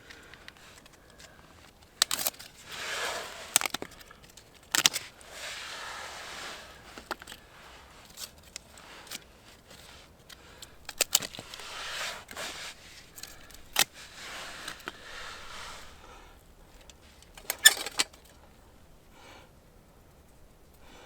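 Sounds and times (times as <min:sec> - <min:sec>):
soft rustling: 0:00.0 - 0:18.8.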